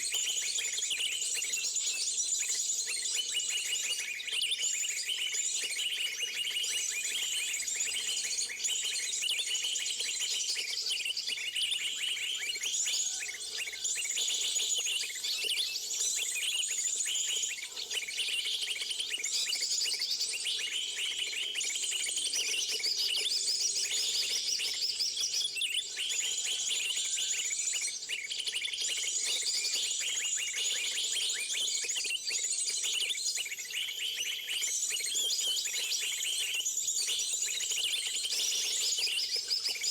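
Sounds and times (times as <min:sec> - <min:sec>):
small birds chirping and trilling: 0:00.2 - 0:39.9.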